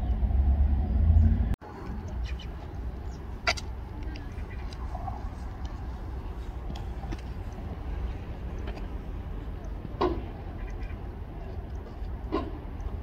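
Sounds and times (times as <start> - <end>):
motor vehicle rumble: 0.0 - 13.0.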